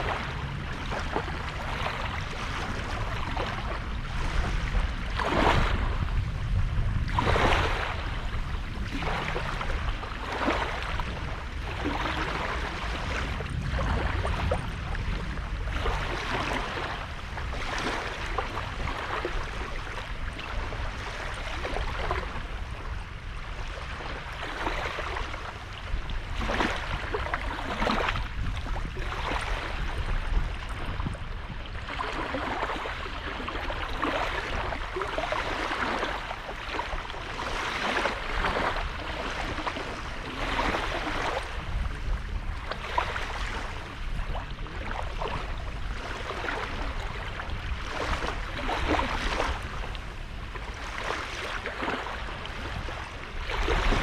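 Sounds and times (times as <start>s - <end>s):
steady low rumble: 0.0s - 21.5s, 25.0s - 48.5s
sea waves breaking on shore: 0.0s - 54.0s.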